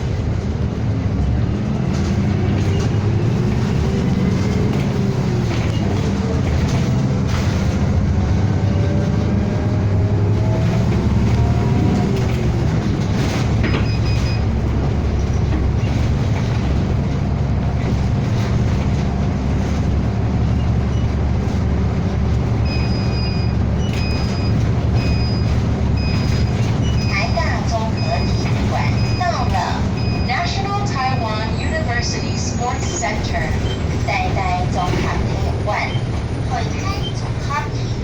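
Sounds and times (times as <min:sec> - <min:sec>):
bus engine and road drone: 0:00.0 - 0:38.0.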